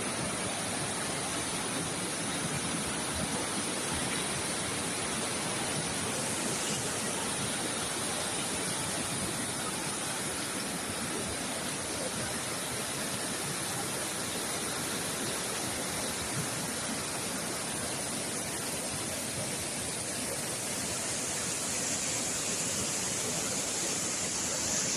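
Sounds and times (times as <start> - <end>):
river rushing: 0.0 - 24.9.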